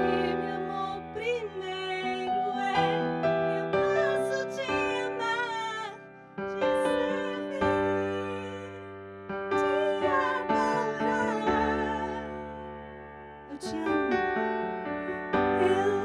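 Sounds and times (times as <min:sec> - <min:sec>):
woman singing with vibrato: 0:00.0 - 0:06.0, 0:06.6 - 0:08.9, 0:09.6 - 0:12.8, 0:13.5 - 0:14.4, 0:15.5 - 0:16.0
keyboard accompaniment: 0:00.0 - 0:16.0.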